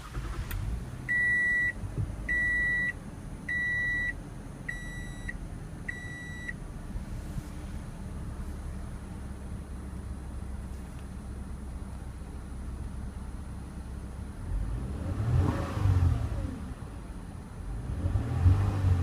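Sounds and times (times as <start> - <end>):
car engine starting and idling: 0.0 - 19.0.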